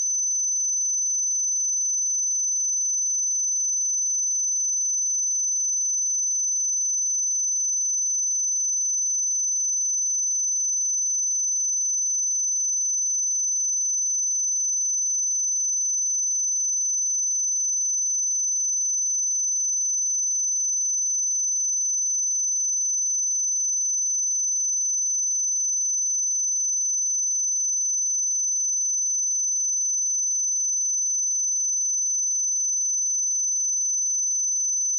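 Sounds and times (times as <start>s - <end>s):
high-pitched sine test tone: 0.0s - 34.9s.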